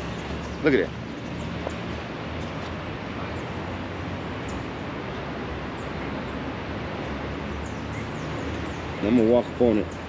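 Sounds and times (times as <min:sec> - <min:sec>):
distant traffic rumble: 0:00.0 - 0:10.0.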